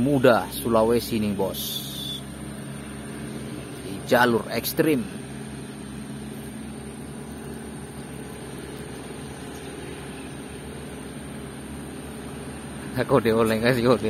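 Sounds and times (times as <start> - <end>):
diesel truck engine at low revs: 0.0 - 14.0.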